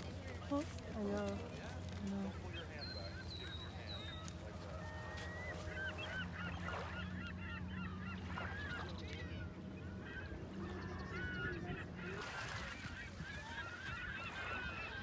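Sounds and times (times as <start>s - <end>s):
flock of birds squawking: 0.0s - 15.0s.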